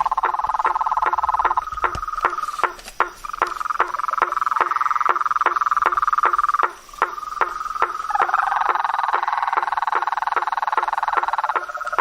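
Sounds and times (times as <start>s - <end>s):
frog chorus trilling: 0.0s - 12.0s
frogs sharp knocking calls: 0.0s - 12.0s
lower-pitched frog trill: 0.0s - 12.0s.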